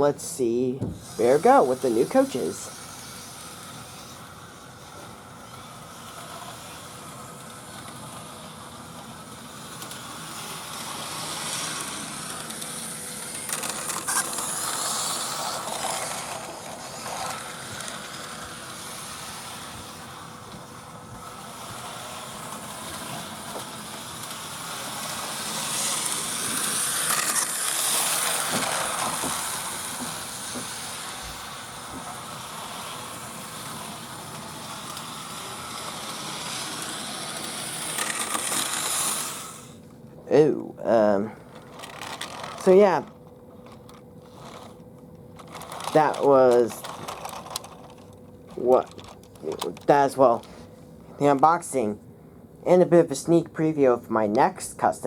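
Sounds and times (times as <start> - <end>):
model train running on track: 1.0 - 39.8, 41.6 - 43.1, 45.4 - 50.0.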